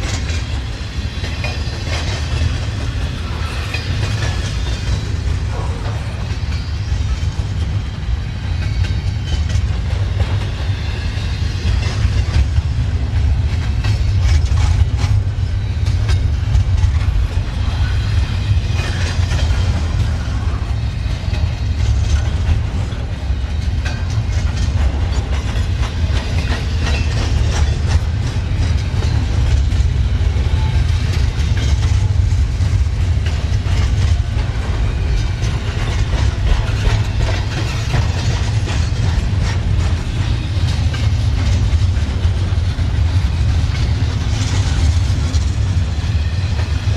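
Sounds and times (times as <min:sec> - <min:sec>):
train wheels rumbling on rails: 0:00.0 - 0:46.9
wheels clacking over rail joints: 0:00.0 - 0:46.9.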